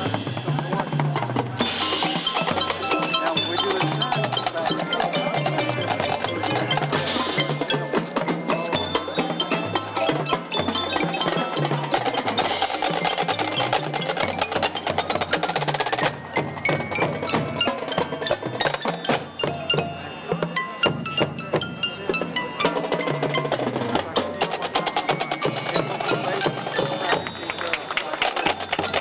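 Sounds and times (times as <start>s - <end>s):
drums and mallet percussion: 0.0s - 29.0s
marching band playing: 0.0s - 29.0s.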